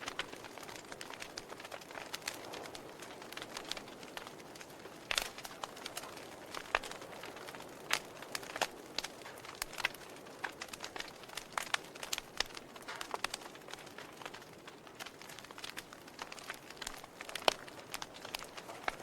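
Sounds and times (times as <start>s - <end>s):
fire popping: 0.0s - 19.0s
wood fire crackling: 0.0s - 19.0s.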